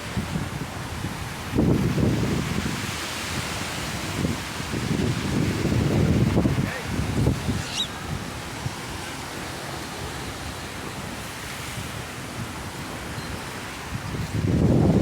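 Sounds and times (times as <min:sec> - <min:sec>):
steady outdoor rushing noise: 0:00.0 - 0:15.0
wind rumble on microphone: 0:00.0 - 0:15.0.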